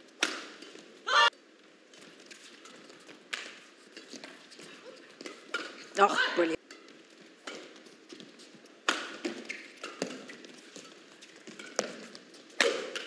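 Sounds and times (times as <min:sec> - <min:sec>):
rackets hitting shuttlecock: 0:00.1 - 0:01.3, 0:02.3 - 0:13.0.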